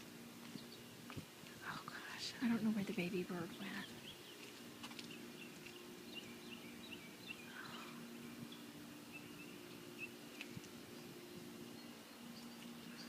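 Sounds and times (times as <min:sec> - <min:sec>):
steady low hum: 0:00.0 - 0:13.0
small birds chirping: 0:00.3 - 0:13.0.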